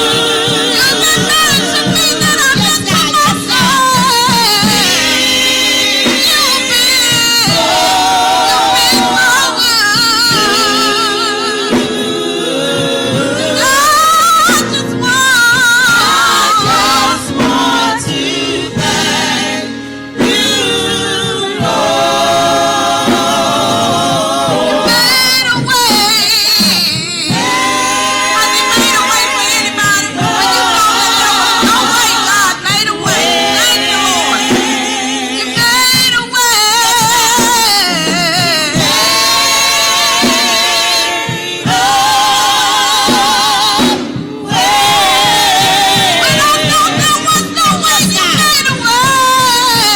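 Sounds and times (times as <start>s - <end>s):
choir and soloist singing: 0.0s - 49.9s
instrumental accompaniment: 0.0s - 49.9s.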